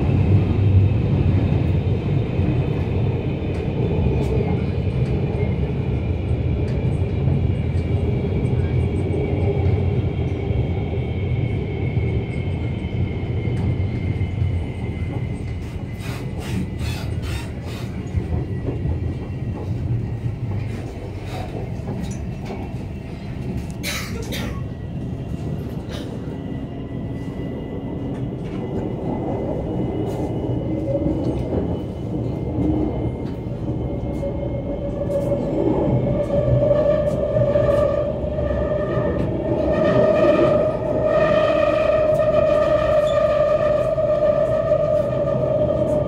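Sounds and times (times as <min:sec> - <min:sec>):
train rumble: 0:00.0 - 0:46.0.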